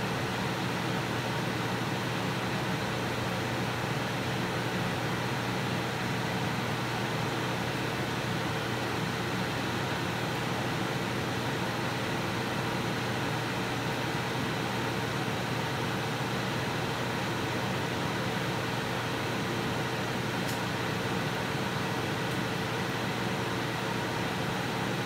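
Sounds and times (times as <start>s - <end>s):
fan-like hum and hiss: 0.0s - 25.0s.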